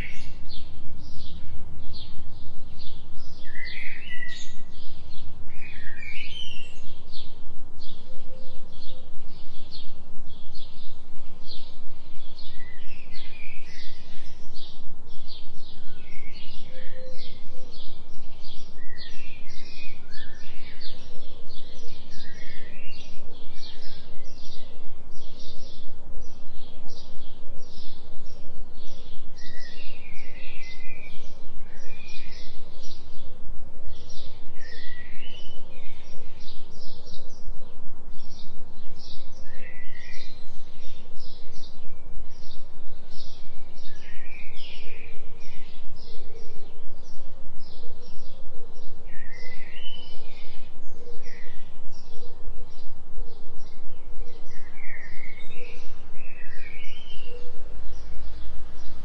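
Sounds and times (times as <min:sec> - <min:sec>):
bird calls: 0:00.0 - 0:59.0
steady low hum: 0:00.0 - 0:59.0.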